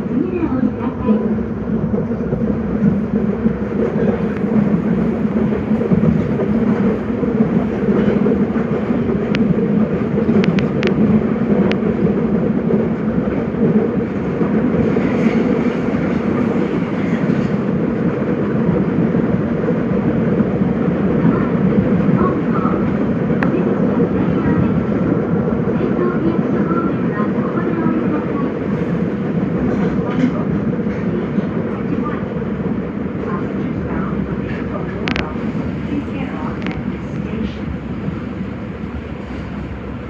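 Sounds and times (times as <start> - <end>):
train wheels and motors rumbling: 0.0 - 40.0.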